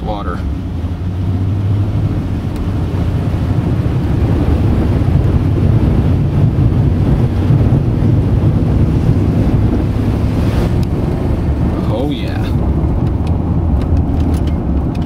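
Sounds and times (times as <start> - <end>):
engine and road noise: 0.0 - 15.0
wind buffeting microphone: 0.0 - 15.0.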